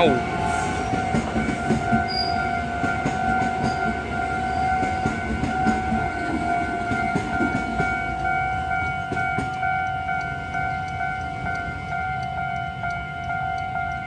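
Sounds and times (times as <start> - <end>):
crossing warning bell: 0.0 - 14.0
train wheels rumbling and clattering: 0.0 - 14.0.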